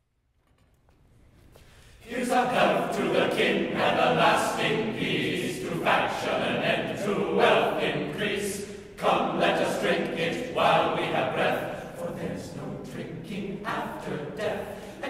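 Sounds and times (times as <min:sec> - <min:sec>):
men's choir singing a cappella: 0:02.0 - 0:15.0.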